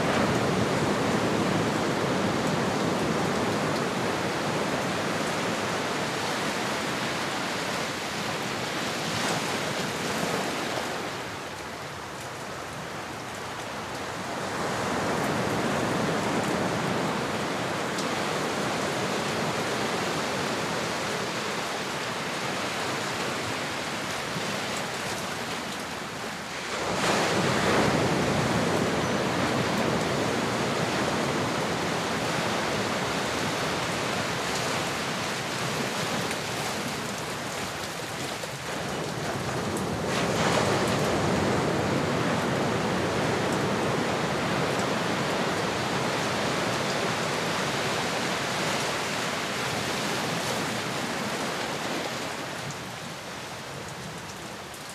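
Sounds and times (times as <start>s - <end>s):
large waves breaking: 0.0s - 54.7s
ocean waves washing: 0.0s - 54.7s.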